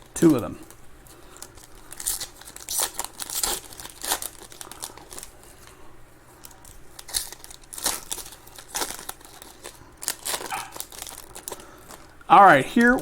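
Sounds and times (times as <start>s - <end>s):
wrappers crinkling and tearing: 0.0s - 13.0s.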